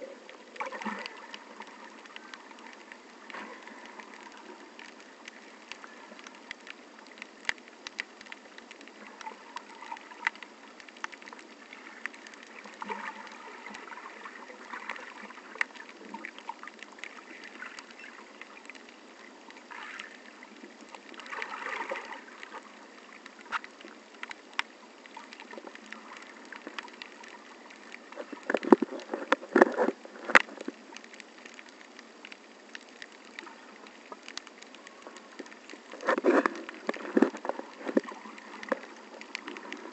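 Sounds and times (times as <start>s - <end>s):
sharp underwater clicks: 0.0s - 39.9s.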